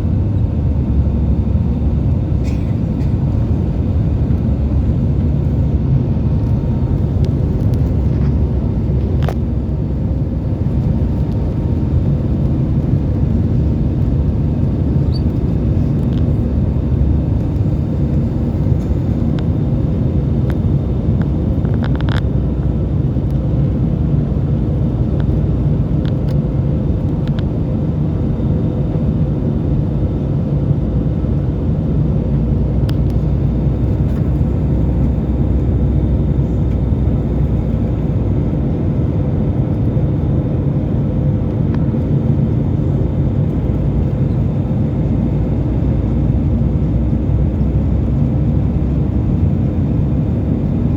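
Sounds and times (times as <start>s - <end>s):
jet engine cabin rumble: 0.0s - 50.9s.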